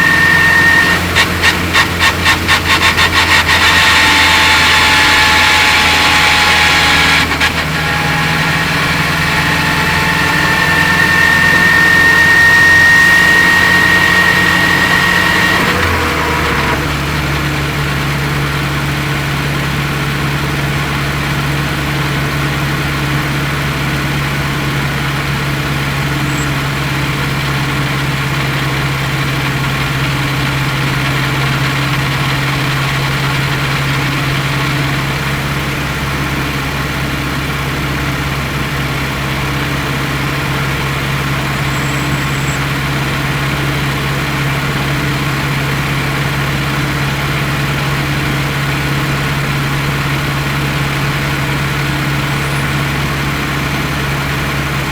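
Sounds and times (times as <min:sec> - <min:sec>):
car engine running steadily: 0:00.0 - 0:54.9.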